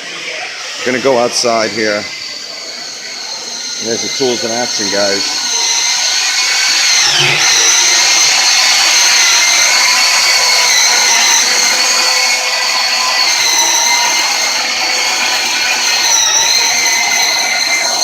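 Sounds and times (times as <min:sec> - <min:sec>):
battery chainsaw electric whine: 0:00.0 - 0:18.0.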